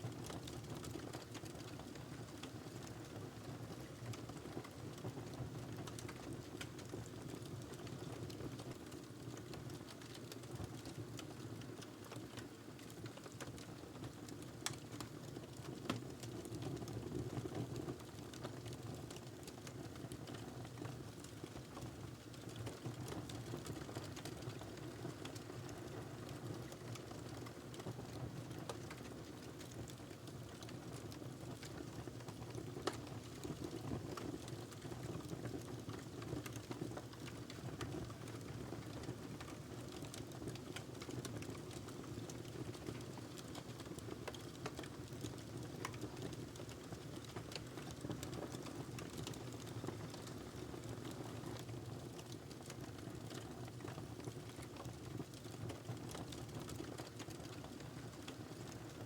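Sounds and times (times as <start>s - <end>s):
wood fire crackling and popping: 0.2s - 59.0s.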